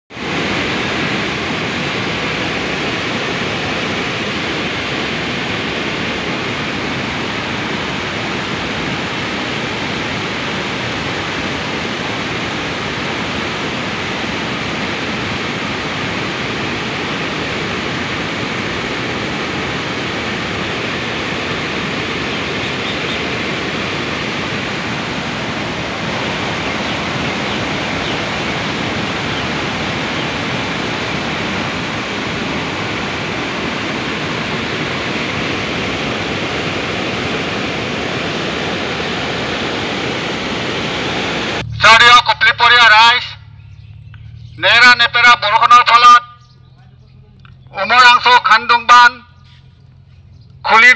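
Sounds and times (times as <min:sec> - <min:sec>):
floodwater rushing through spillway: 0:00.1 - 0:43.2.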